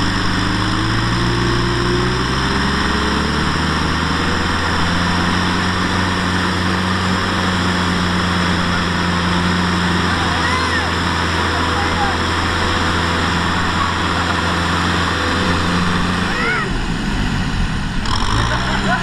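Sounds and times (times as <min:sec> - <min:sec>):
tractor diesel engines: 0:00.0 - 0:19.0.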